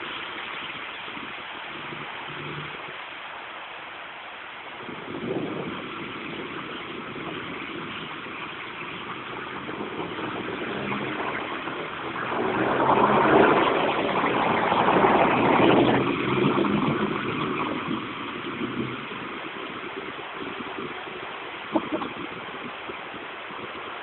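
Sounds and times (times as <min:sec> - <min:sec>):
car driving through water: 0:00.0 - 0:24.0
wet road hiss: 0:00.0 - 0:24.0.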